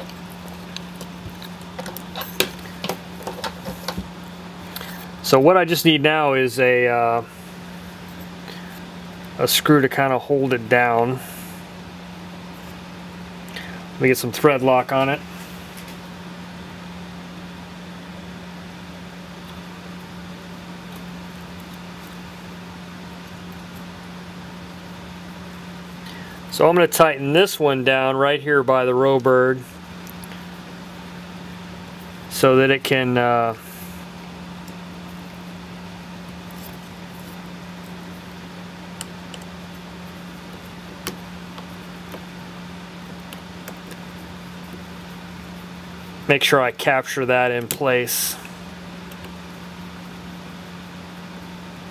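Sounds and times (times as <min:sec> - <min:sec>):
low hum with hiss: 0:00.0 - 0:51.9.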